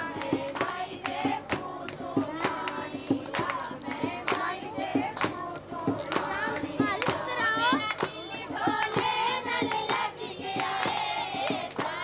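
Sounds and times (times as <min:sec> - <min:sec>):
sharp hand-claps: 0:00.0 - 0:05.4, 0:06.0 - 0:12.0
women singing together: 0:00.0 - 0:12.0.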